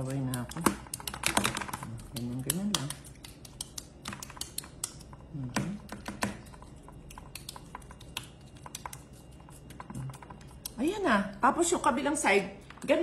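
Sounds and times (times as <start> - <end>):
fingers patting wet meat: 0.0 - 11.1.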